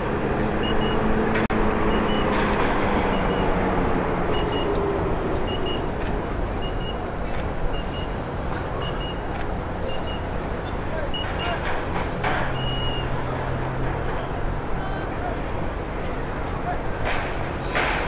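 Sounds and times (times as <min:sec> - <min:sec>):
ship machinery rumbling: 0:00.0 - 0:18.0.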